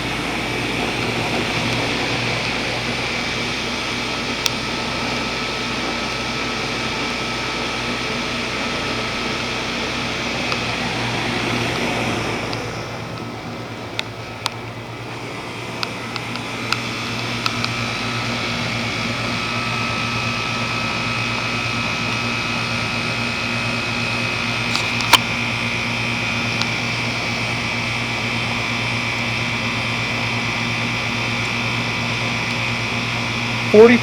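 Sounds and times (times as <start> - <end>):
heat pump compressor hum: 0.0 - 34.0.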